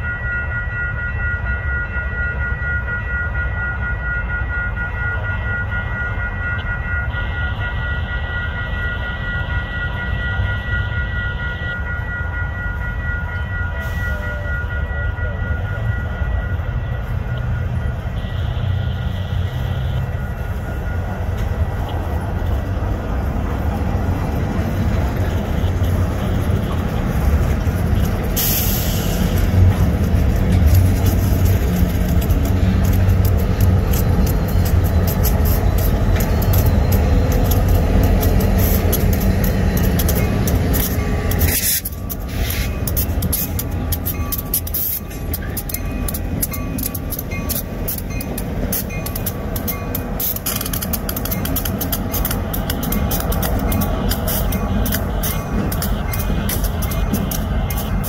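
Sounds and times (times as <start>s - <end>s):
diesel locomotives: 0.0s - 58.0s
freight train wheels rumbling on rails: 0.0s - 58.0s.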